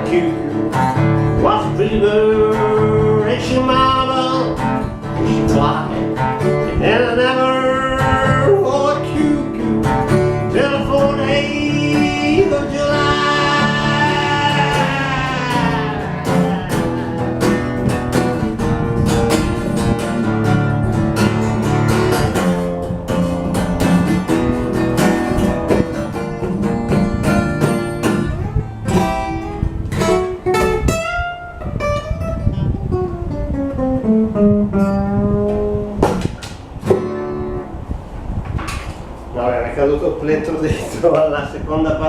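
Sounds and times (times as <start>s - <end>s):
acoustic guitar picked and strummed: 0.0s - 39.2s.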